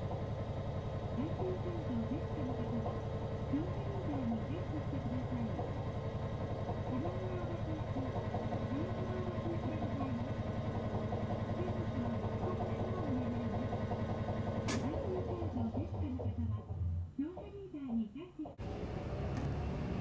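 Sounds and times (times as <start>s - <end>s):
pulsing machinery drone: 0.0s - 20.0s.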